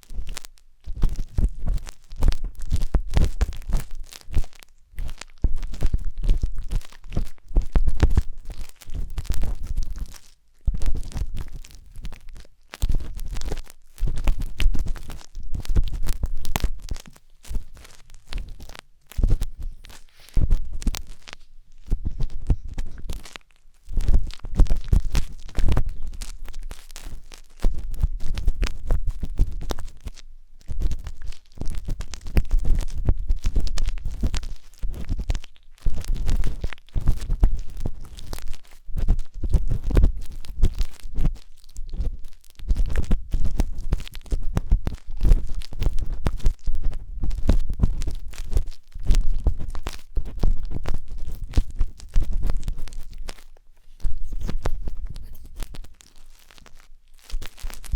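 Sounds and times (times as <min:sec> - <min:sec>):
wooden skewer scratching microphone: 0:01.0 - 0:30.1, 0:36.0 - 0:57.9.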